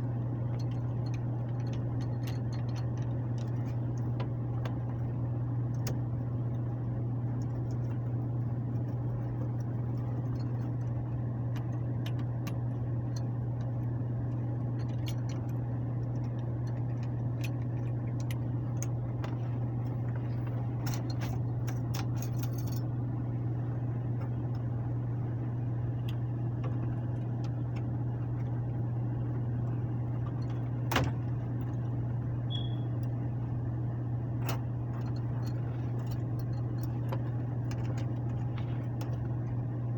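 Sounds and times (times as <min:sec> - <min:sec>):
blower motor humming: 0:00.0 - 0:39.9.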